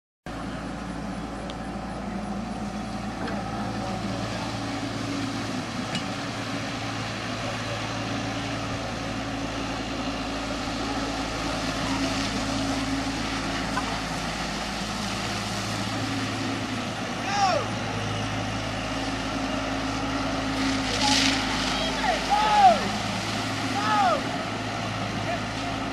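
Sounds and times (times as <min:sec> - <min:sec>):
excavator diesel engine running: 0:00.3 - 0:25.9.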